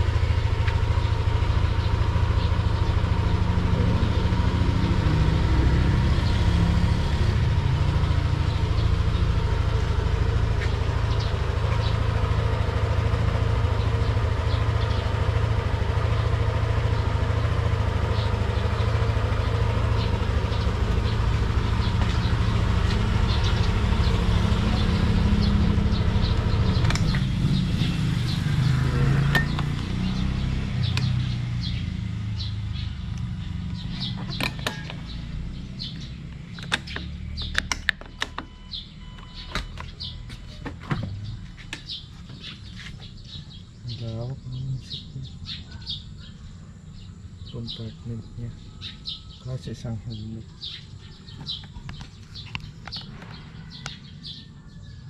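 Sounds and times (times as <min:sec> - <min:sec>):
scooter engine idling: 0:00.0 - 0:05.0, 0:07.3 - 0:55.0.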